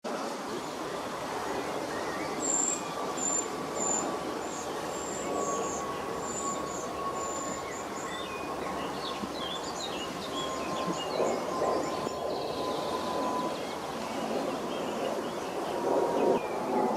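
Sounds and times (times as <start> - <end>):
faint whine: 0.1 - 16.9
small birds chirping: 0.5 - 16.9.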